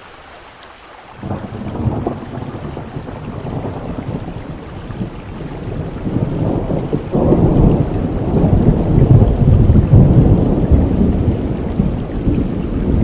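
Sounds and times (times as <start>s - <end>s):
steady rain: 0.0s - 13.0s
low roll of thunder: 1.2s - 13.0s.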